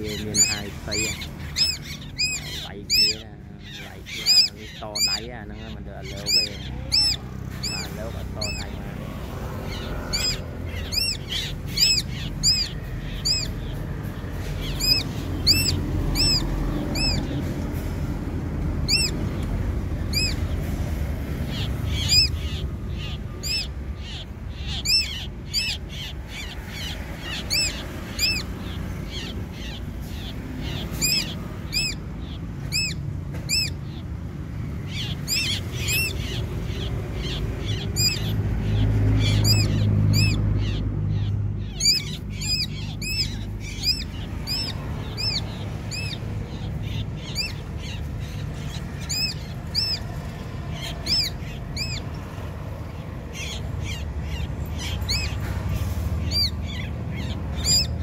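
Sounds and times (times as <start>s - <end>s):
bird ringing chirps: 0.0s - 17.9s, 18.8s - 20.8s, 21.4s - 34.1s, 34.8s - 52.2s, 52.9s - 58.0s.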